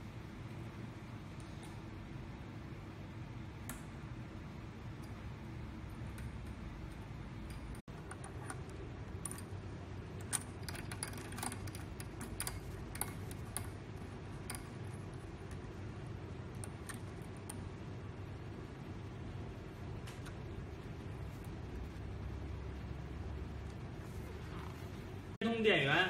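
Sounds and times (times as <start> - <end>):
steady low background hum: 0.0 - 26.0.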